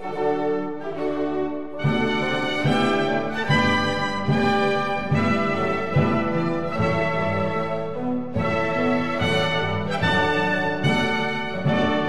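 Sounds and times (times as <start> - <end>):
orchestral music with brass: 0.0 - 12.0.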